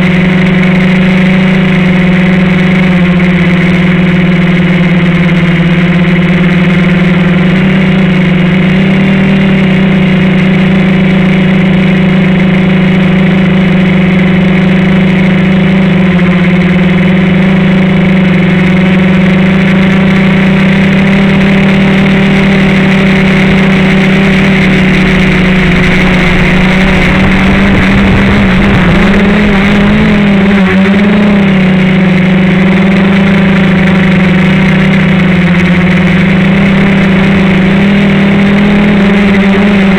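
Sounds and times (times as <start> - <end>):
drone motors droning hum: 0.0 - 39.9.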